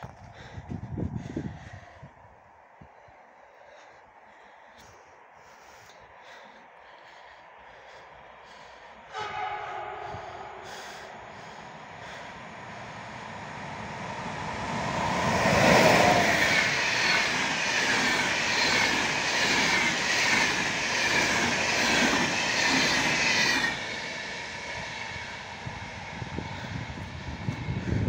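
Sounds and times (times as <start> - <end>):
train passing rush: 3.7 - 28.0.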